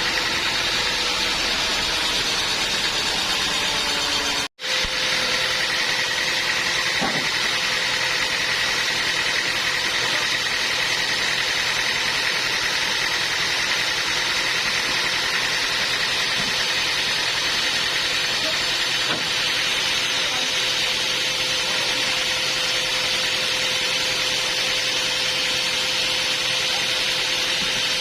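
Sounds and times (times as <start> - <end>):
sawmill machinery drone: 0.0 - 28.0.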